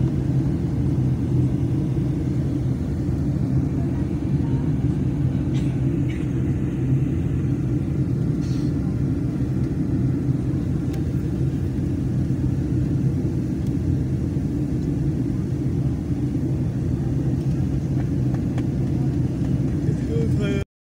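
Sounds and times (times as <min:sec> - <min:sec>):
airliner engines droning: 0:00.0 - 0:20.6.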